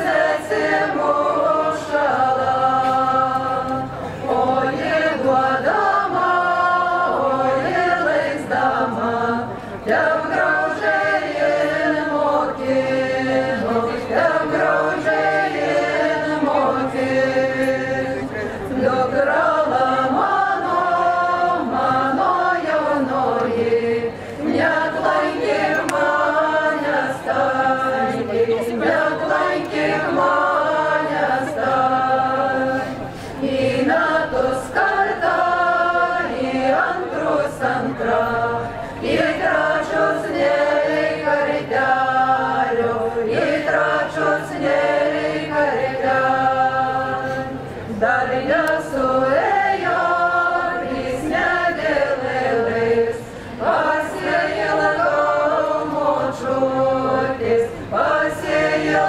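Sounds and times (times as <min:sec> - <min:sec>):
group singing folk song: 0:00.0 - 0:59.0.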